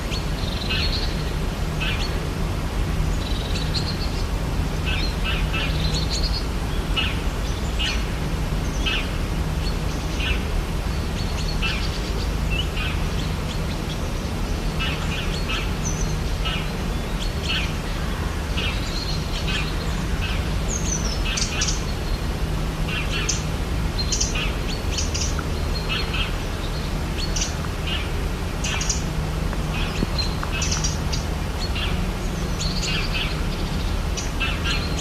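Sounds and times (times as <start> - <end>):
birds chirping and calling: 0.0 - 2.4, 3.1 - 35.0.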